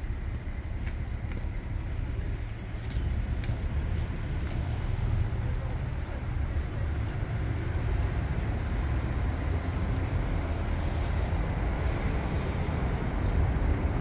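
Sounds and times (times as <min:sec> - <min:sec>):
city street ambience rumble: 0:00.0 - 0:14.0.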